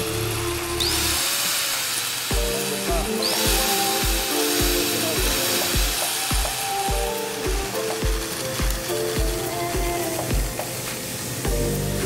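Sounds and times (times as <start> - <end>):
angle grinder running: 0.0 - 12.0
background music with steady beat: 2.3 - 12.0.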